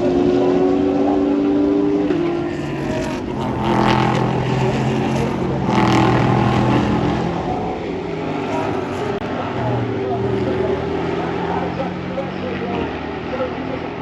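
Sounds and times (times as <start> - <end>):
race cars passing: 0.0 - 14.0.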